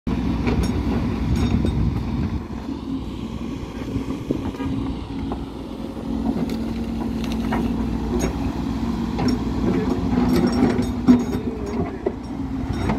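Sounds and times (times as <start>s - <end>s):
excavator diesel engine running: 0.1s - 12.9s
hydraulic hum: 0.1s - 12.9s.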